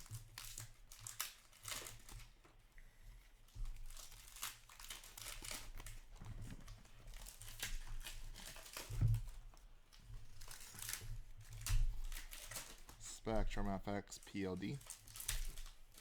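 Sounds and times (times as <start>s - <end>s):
card wrappers crinkling and rustling: 0.1s - 16.0s.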